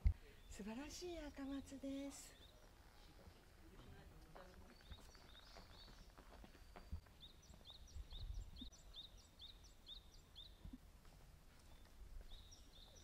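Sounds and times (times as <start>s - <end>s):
bird chirping: 0.3s - 10.8s, 11.6s - 13.0s.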